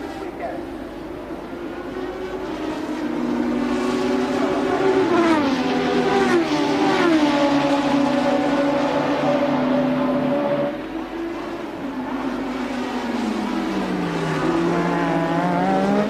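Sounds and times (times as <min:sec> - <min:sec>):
race car engine: 0:00.0 - 0:16.0.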